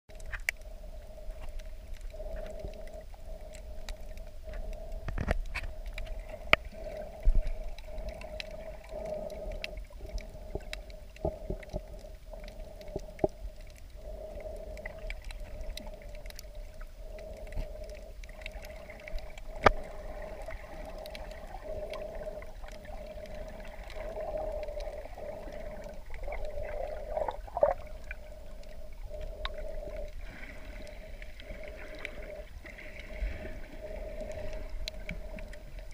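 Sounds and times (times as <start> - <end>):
sharp underwater clicks: 0.1 - 33.2
muffled underwater hum: 0.1 - 35.9.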